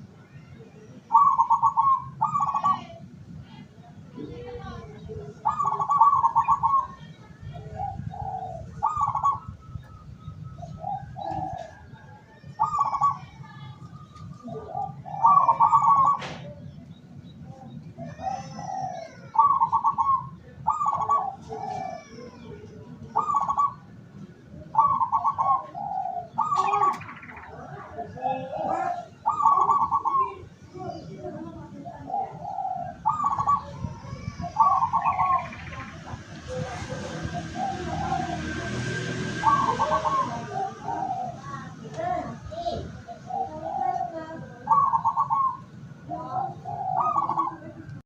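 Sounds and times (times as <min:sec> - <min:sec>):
doves cooing: 0:00.9 - 0:03.3, 0:04.2 - 0:48.0.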